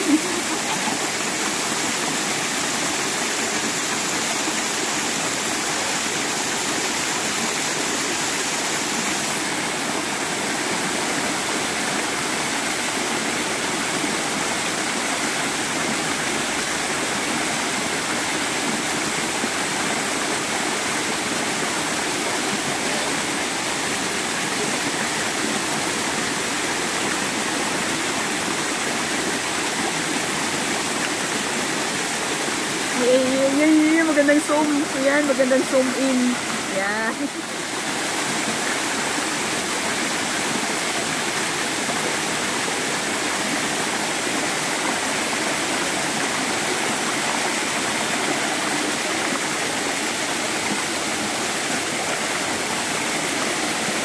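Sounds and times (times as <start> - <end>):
waterfall rushing over boulders: 0.0 - 54.0.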